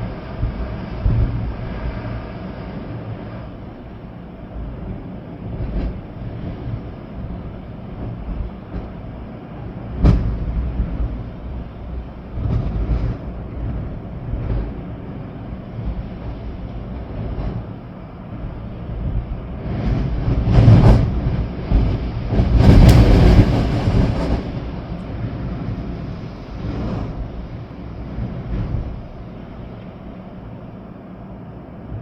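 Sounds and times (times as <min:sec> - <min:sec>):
storm wind gusting on microphone: 0:00.0 - 0:32.0.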